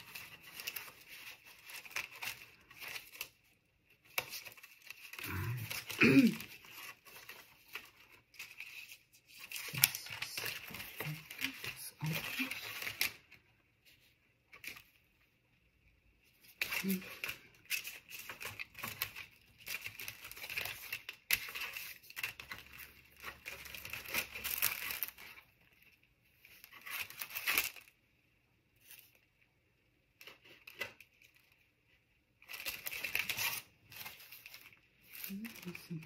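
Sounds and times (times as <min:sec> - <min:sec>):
plastic sleeves crinkling: 0:00.0 - 0:36.0.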